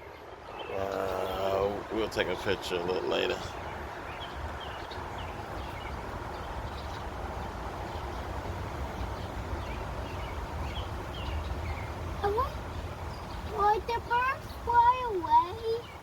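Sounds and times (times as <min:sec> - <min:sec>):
low outdoor rumble: 0:00.0 - 0:16.0
small birds chirping faintly: 0:00.0 - 0:16.0.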